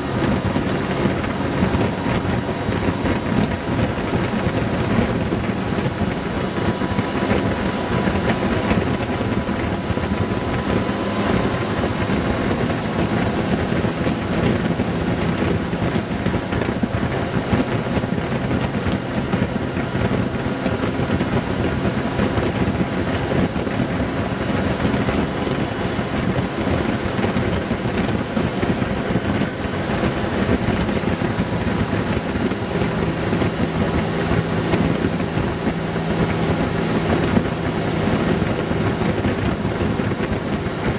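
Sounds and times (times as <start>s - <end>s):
motorcycle engine cruising: 0.0s - 40.9s
wind buffeting microphone: 0.0s - 40.9s.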